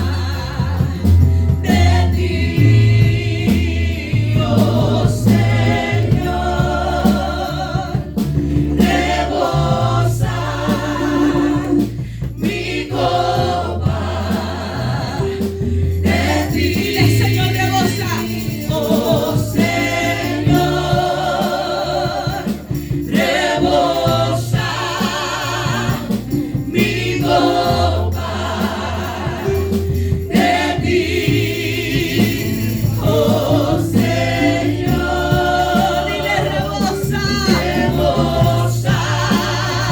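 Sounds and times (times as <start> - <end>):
band with bass chords: 0.0 - 39.9
group of singers: 0.0 - 39.9.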